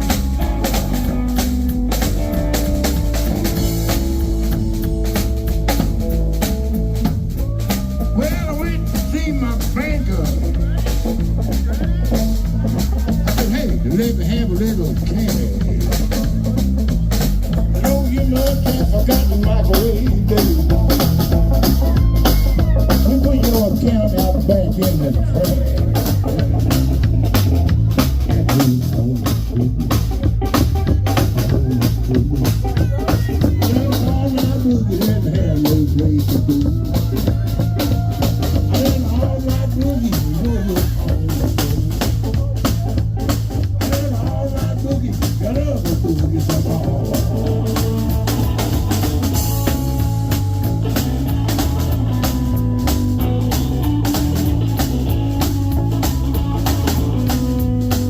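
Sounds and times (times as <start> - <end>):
bass guitar: 0.0 - 58.0
drum kit steady beat: 0.0 - 58.0
electric guitar: 0.0 - 58.0.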